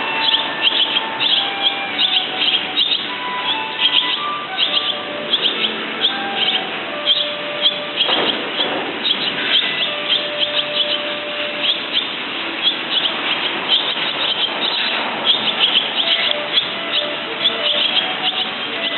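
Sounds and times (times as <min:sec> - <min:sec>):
swallows twittering: 0:00.0 - 0:18.9.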